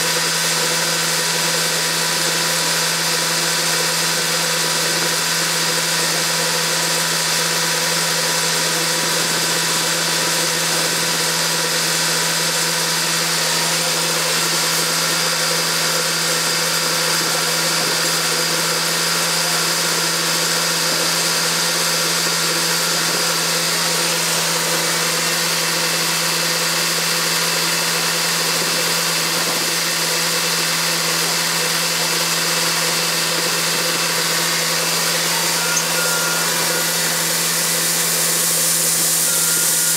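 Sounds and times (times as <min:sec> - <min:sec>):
farm machinery engine droning: 0:00.0 - 0:39.9.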